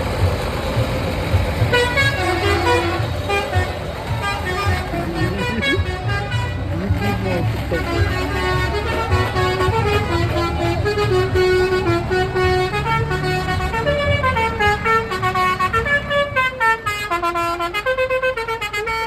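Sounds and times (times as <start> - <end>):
horn-like tune: 1.6 - 19.0.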